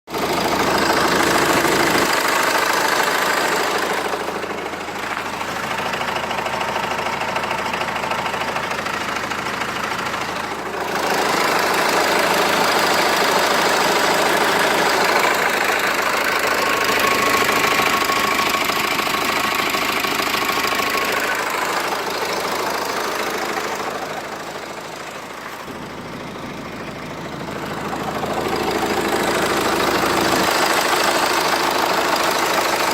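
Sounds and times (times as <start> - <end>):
car engine idling with knock: 0.1 - 32.9.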